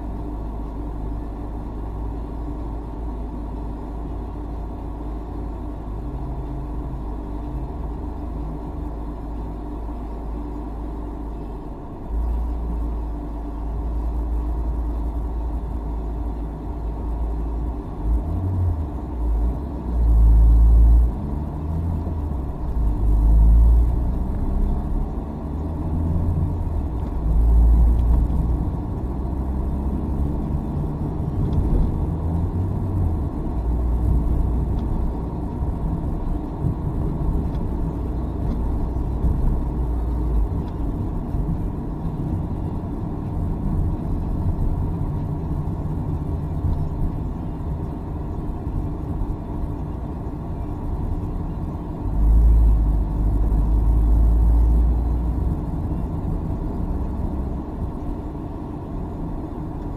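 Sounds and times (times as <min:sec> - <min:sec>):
car engine drone: 0:00.0 - 0:59.9
road rumble: 0:00.0 - 0:59.9.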